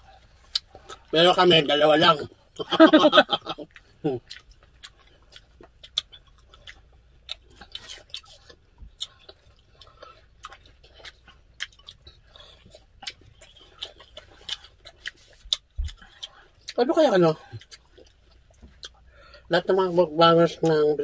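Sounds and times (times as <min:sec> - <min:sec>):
chewing and mouth noises: 0:00.0 - 0:19.5.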